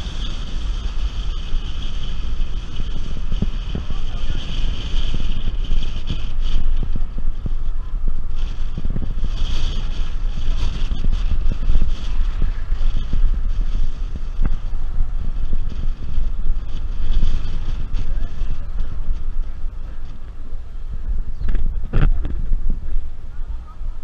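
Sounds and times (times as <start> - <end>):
car running noise: 0.0 - 23.8
wind rumble on microphone: 0.0 - 24.0.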